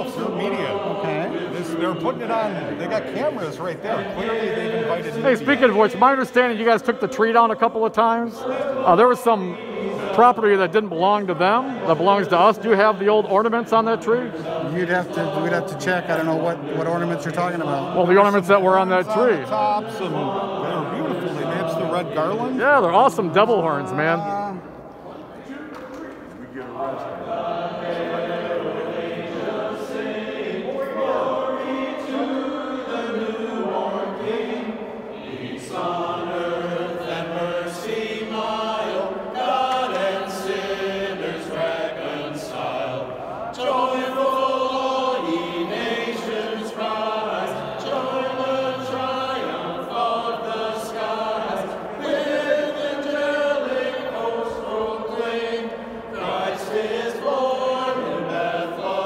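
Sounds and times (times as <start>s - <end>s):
group of men singing: 0.0s - 24.0s, 26.6s - 59.0s.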